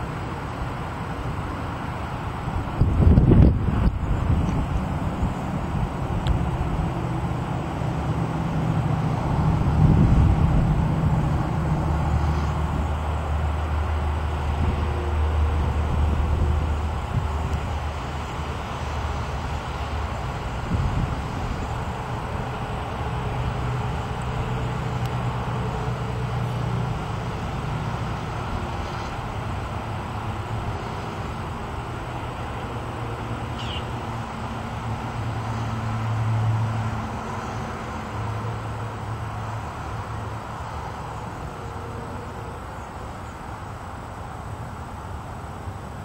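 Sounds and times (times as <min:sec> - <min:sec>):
wind rushing across microphone: 0:00.0 - 0:40.6
wind turbine humming: 0:00.0 - 0:46.0.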